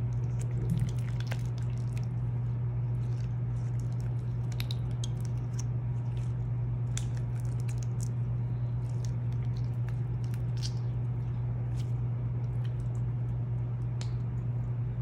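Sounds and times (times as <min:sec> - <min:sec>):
slime squelching: 0:00.0 - 0:14.6
low hum: 0:00.0 - 0:15.0.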